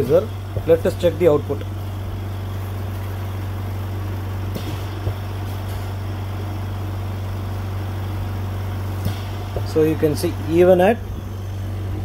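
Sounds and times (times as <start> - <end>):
oxygen concentrator humming: 0.0 - 12.0.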